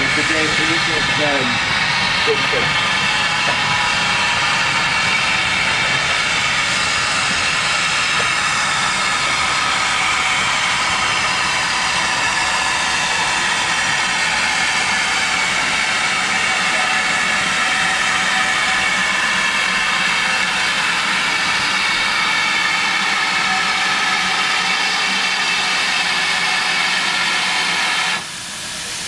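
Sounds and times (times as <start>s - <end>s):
steam locomotive hissing: 0.0s - 29.0s.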